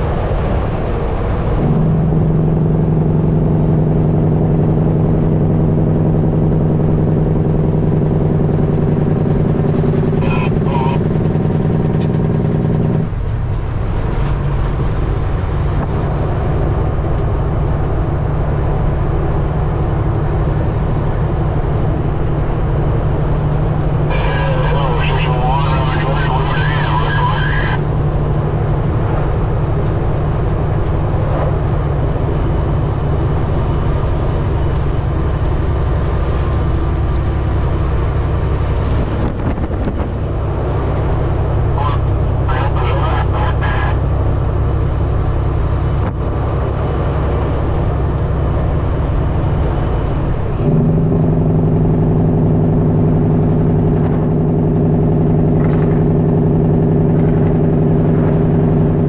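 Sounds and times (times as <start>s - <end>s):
road noise: 0.0s - 59.0s
truck diesel engine drone: 0.0s - 59.0s.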